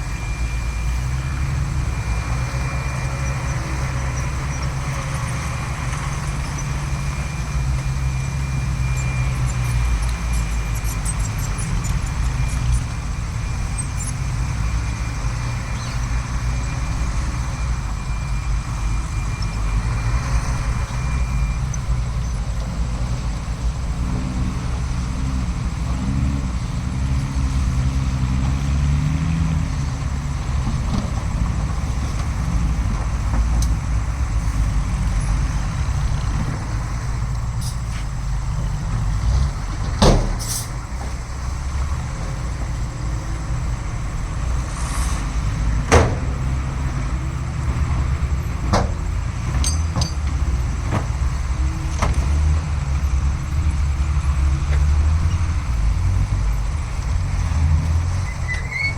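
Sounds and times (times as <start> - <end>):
diesel machinery running: 0.0 - 58.9.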